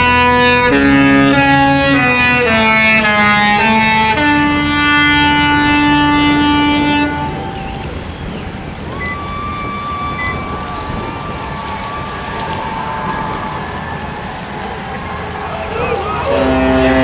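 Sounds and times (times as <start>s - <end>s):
ship's musical horn playing: 0.0s - 12.8s, 15.8s - 17.0s
wind rumbling: 0.0s - 17.0s.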